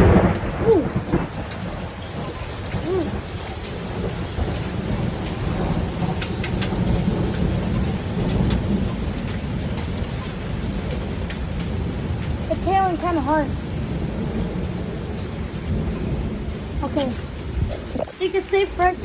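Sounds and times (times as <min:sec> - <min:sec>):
hail strikes: 0:00.0 - 0:19.0
rain rushing: 0:00.0 - 0:19.0.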